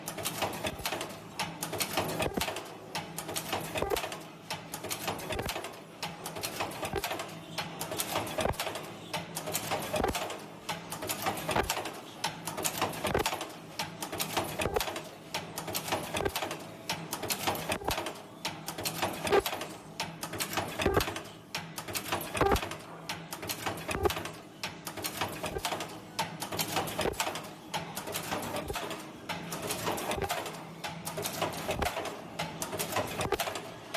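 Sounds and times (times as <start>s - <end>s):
welding machine clattering: 0.0s - 18.2s, 21.8s - 33.8s.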